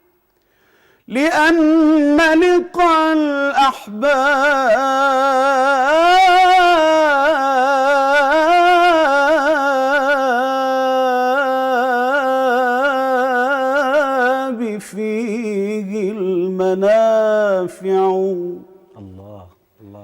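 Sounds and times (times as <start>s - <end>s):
man singing unaccompanied: 1.1s - 20.0s.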